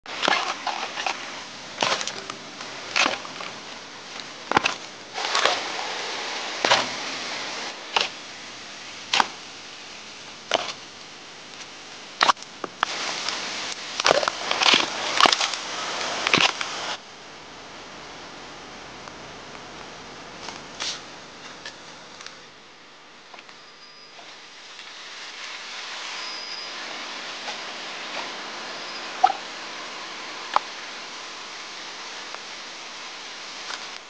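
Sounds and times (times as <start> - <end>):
steady hiss: 0.1 - 34.0.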